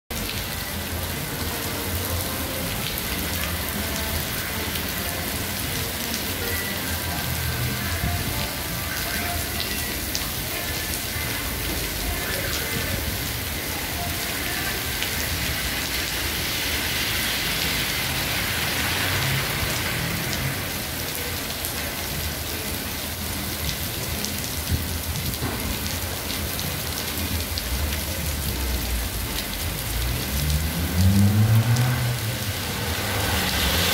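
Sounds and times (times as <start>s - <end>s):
heavy rain on pavement: 0.1s - 33.9s.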